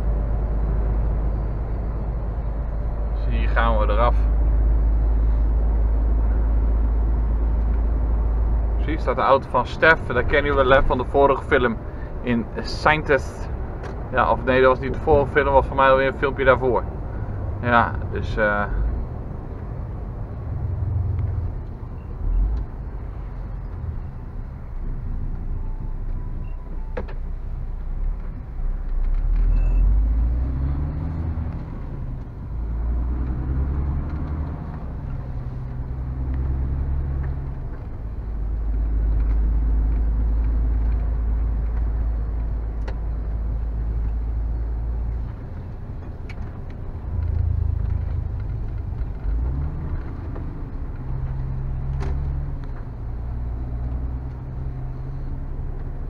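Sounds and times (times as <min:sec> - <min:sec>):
diesel lorry engine from cab: 0:00.0 - 0:56.0.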